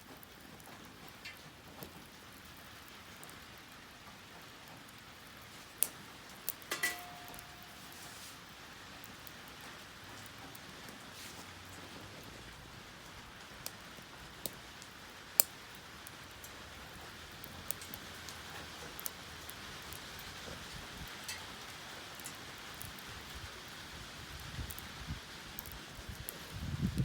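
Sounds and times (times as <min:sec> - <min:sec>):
wood fire crackling and popping: 0:00.0 - 0:27.0
fire hissing: 0:00.1 - 0:27.0.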